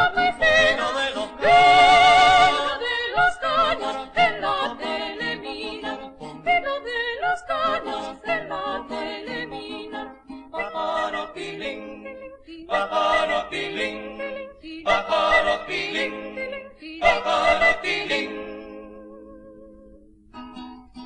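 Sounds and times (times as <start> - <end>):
vocal group singing in harmony: 0.0 - 20.0.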